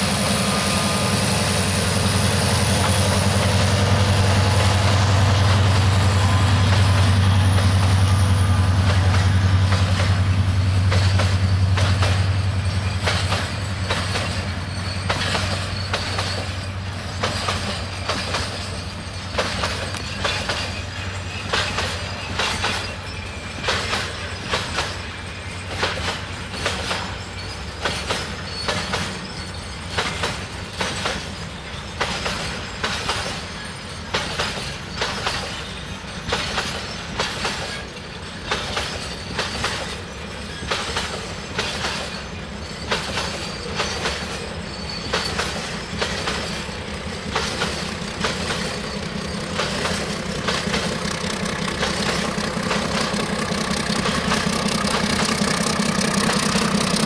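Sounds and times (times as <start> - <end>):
diesel locomotive drone: 0.0 - 57.0
low rumble of train: 0.0 - 57.0
train wheels clacking on rail joints: 0.0 - 57.0.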